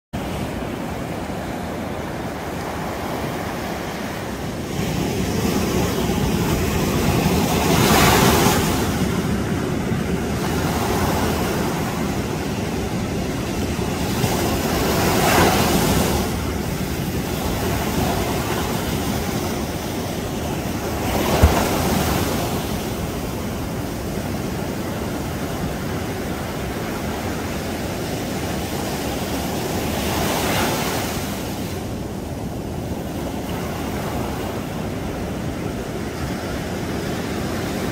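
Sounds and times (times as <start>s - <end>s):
waves breaking: 0.2s - 37.9s
wind buffeting microphone: 0.2s - 37.9s.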